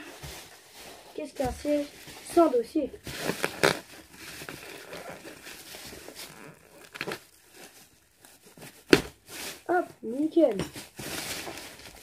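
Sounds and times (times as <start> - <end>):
plastic film crinkling and tearing: 0.0 - 12.0.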